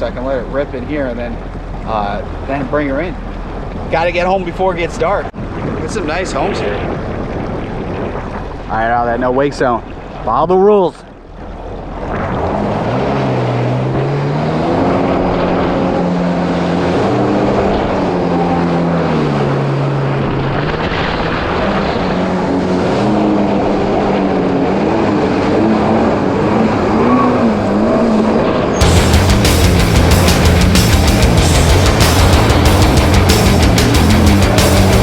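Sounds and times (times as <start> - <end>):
jet ski engine revving: 0.0 - 5.1, 11.2 - 35.0
water and wind rushing: 0.0 - 35.0.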